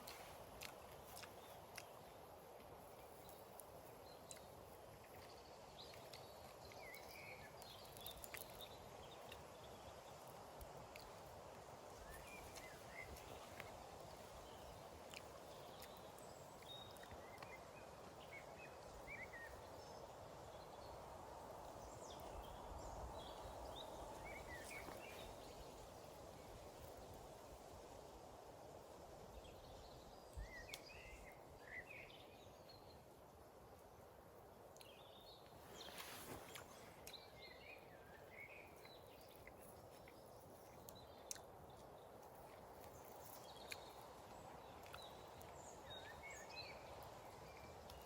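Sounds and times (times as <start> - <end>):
steady soft hiss: 0.0 - 48.0.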